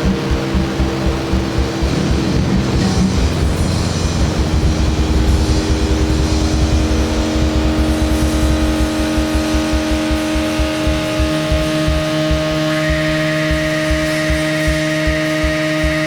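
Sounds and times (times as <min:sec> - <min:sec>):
distorted guitar drone: 0:00.0 - 0:16.0
rapid low drum beat: 0:00.0 - 0:16.0.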